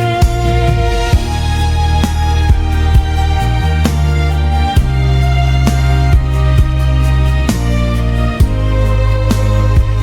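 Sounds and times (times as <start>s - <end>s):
cinematic orchestral music: 0.0s - 10.0s.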